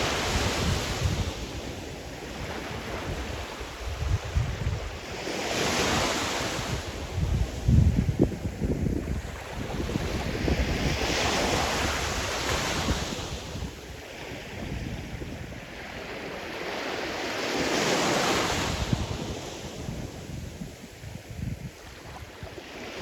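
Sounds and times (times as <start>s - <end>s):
wind buffeting microphone: 0.0s - 15.8s, 18.4s - 22.9s.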